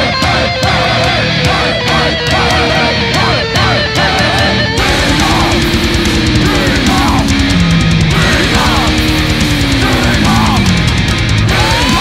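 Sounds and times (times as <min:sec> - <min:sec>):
heavy metal band playing live: 0:00.0 - 0:12.0.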